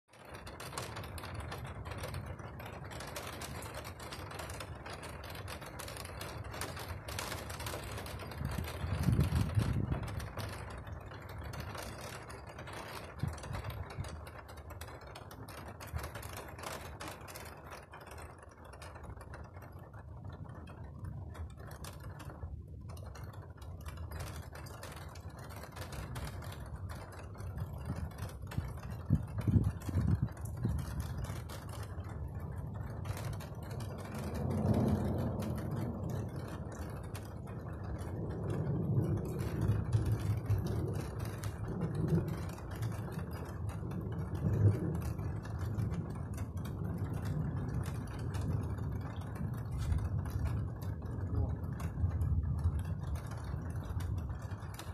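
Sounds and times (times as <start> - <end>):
steady rain patter: 0.0 - 54.9
thunder rolling: 0.2 - 54.9.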